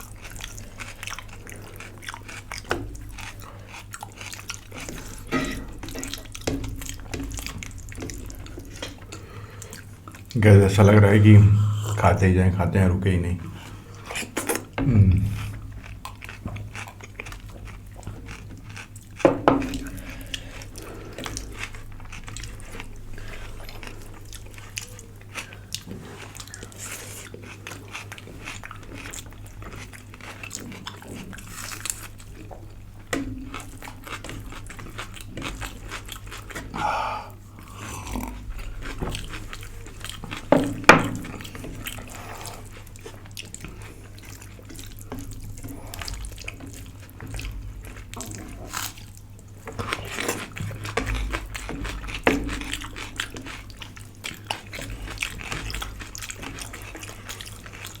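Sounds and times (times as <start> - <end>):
chewing and biting food: 0.0 - 10.4, 13.6 - 58.0.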